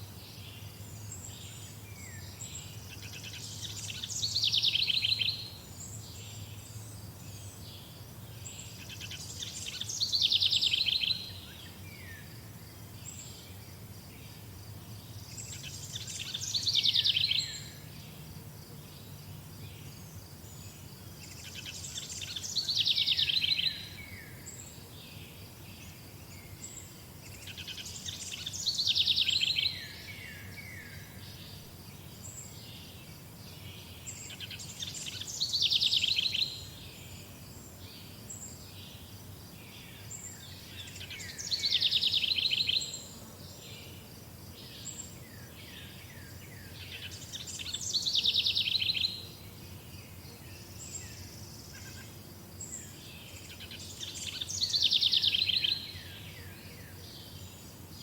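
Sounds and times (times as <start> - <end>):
low background noise: 0.0 - 58.0.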